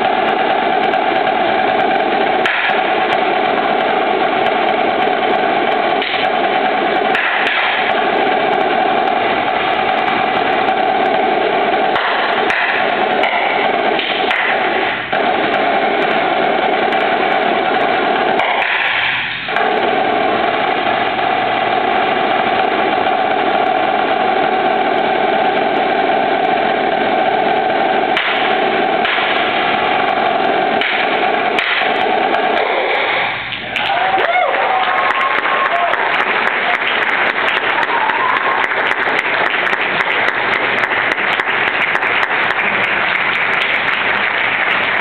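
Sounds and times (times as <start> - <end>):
snare drum rolls: 0.0 - 45.0.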